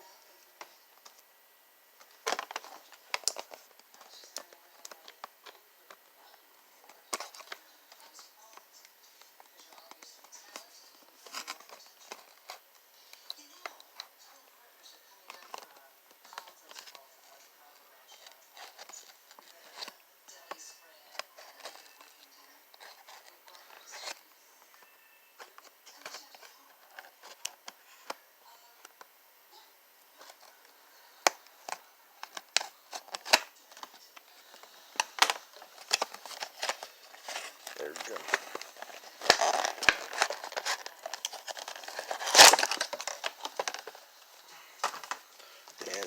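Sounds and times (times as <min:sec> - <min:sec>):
packaging crinkling and rustling: 0:02.0 - 0:14.2, 0:15.1 - 0:28.2, 0:30.2 - 0:46.0.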